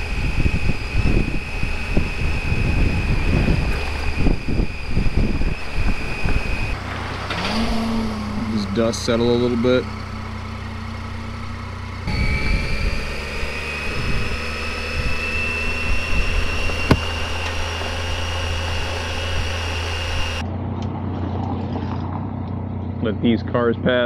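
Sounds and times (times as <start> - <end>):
thin rising whine: 0.0 - 20.6
motorcycle engine: 0.0 - 23.5.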